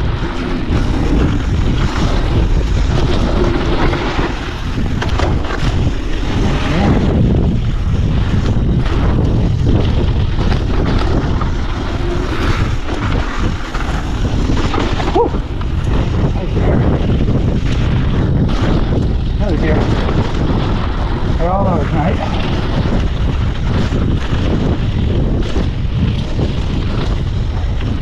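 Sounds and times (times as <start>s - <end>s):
bike rattling over bumps: 0.0s - 28.0s
tyres rolling on dirt: 0.0s - 28.0s
wind rushing over microphone: 0.0s - 28.0s.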